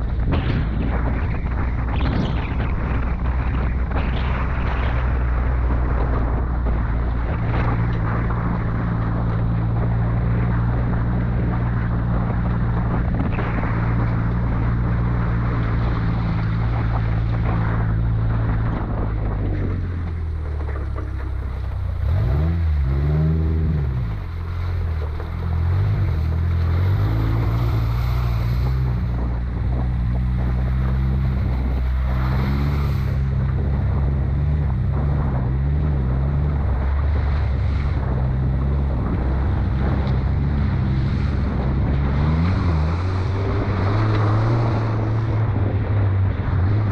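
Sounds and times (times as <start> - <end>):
off-road vehicle engine revving: 0.0 - 46.9.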